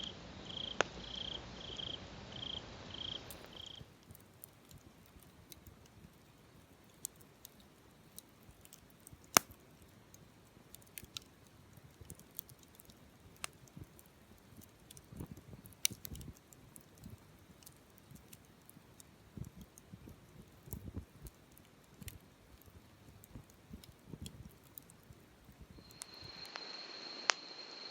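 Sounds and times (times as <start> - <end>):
wood fire crackling: 0.0 - 27.9
sharp pops from burning wood: 3.3 - 26.7.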